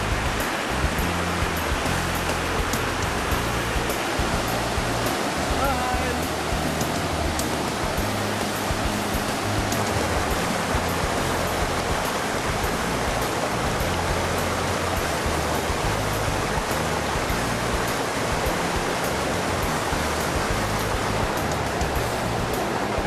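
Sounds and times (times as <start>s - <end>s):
background music with low bass: 0.0s - 23.0s
waterfall rushing: 0.0s - 23.0s.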